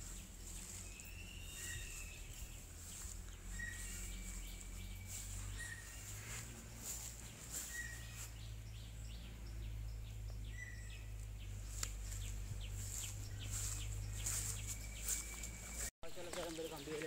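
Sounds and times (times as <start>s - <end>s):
steady low hum: 0.0s - 15.9s
small birds chirping: 0.0s - 17.0s.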